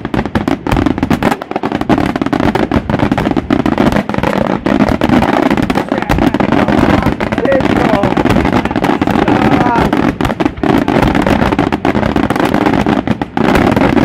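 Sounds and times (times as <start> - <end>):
fireworks bursting and banging: 0.0 - 14.0.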